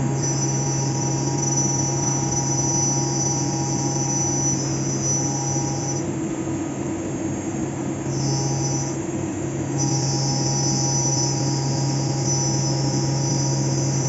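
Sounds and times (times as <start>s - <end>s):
cutter squealing: 0.0s - 6.2s, 8.1s - 14.0s
spindle hum: 0.0s - 14.0s.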